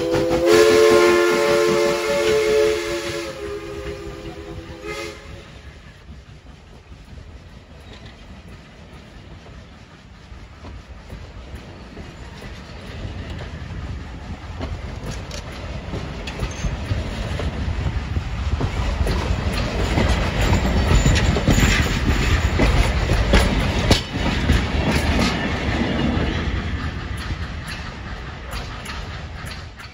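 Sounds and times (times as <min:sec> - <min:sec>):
train wheels rumbling on rails: 0:00.0 - 0:29.9
wheels clicking over rail joints: 0:05.6 - 0:29.9.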